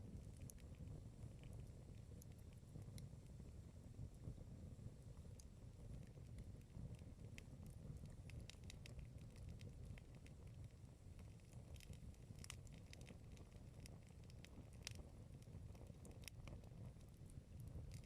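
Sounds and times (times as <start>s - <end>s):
campfire crackling: 0.0s - 3.6s, 5.1s - 18.0s.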